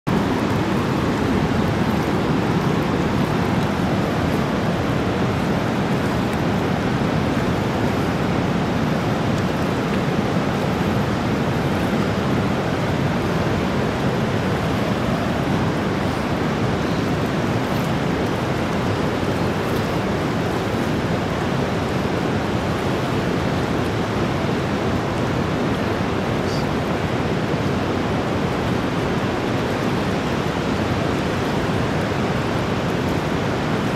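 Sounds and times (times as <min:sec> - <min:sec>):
whitewater rapids roaring: 0:00.1 - 0:33.9.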